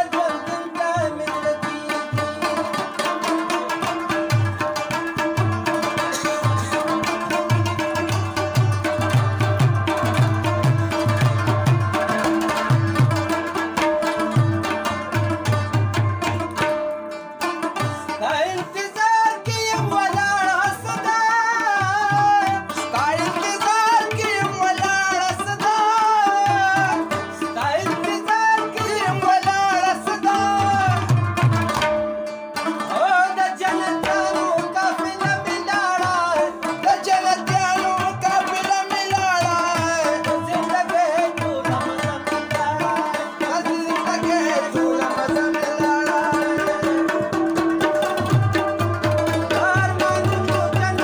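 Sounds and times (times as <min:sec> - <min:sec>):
tabla beat: 0:00.0 - 0:51.0.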